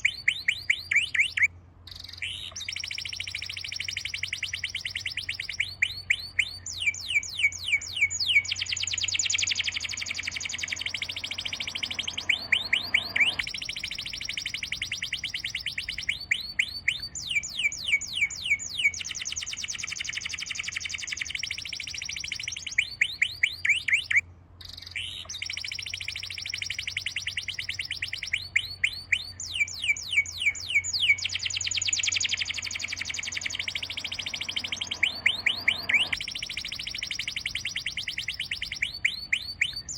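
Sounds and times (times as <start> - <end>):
bird sweeping chirps: 0.0 - 39.9
high trilling bird chorus: 0.0 - 39.9.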